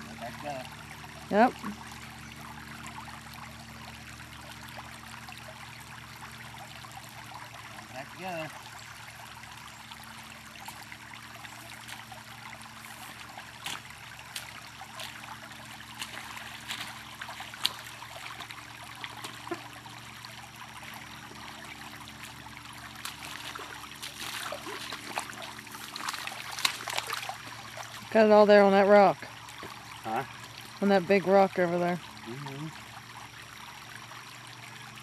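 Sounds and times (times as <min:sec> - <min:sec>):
creek water trickling: 0:00.0 - 0:35.0.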